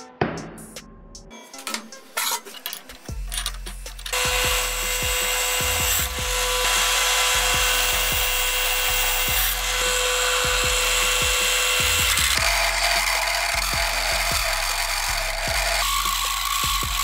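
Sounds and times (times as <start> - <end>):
background music with beat: 0.0 - 17.0
drill press boring metal: 1.7 - 17.0.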